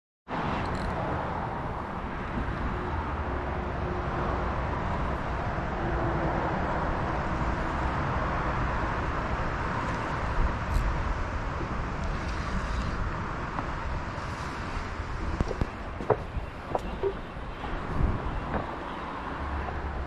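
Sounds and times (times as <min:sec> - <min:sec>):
wind: 0:00.3 - 0:20.0
river flowing: 0:00.8 - 0:20.0.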